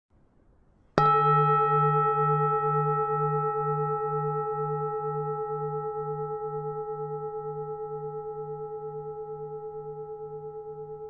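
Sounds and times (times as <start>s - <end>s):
temple bell ringing: 1.0s - 11.0s.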